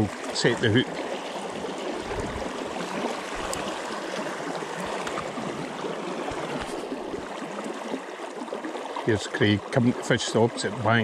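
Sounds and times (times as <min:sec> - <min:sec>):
river water flowing and rippling: 0:00.0 - 0:11.0.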